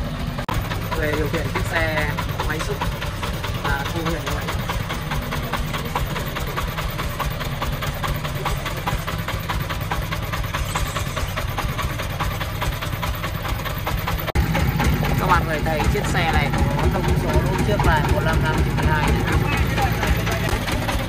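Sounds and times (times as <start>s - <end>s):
diesel engines idling: 0.0s - 21.0s.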